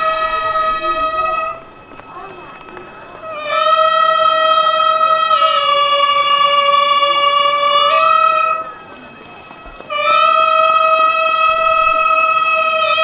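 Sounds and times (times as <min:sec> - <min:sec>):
double-reed pipe held note: 0:00.0 - 0:13.0.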